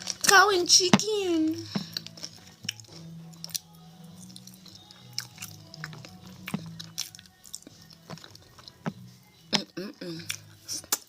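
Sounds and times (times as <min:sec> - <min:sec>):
person chewing and biting chicken: 0:01.7 - 0:11.0.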